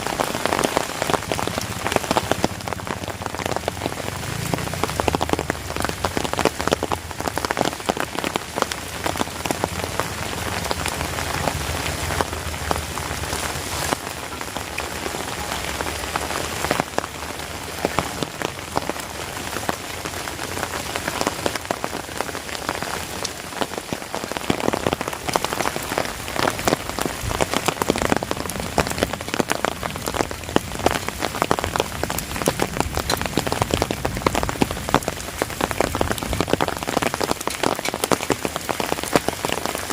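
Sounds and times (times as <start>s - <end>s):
close raindrop hits: 0.0s - 39.9s
heavy rain: 0.0s - 39.9s.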